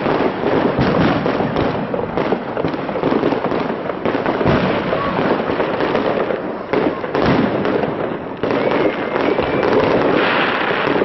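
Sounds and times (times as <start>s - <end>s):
fireworks bangs and crackling: 0.0s - 11.0s
heavy fireworks boom: 0.0s - 11.0s.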